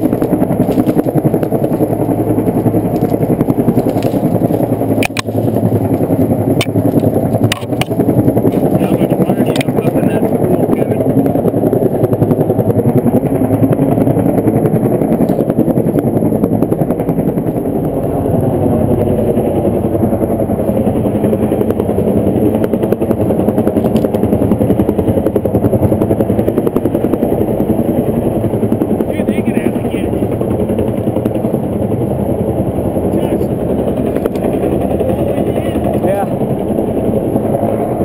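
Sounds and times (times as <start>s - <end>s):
helicopter rotor chop: 0.0s - 38.0s.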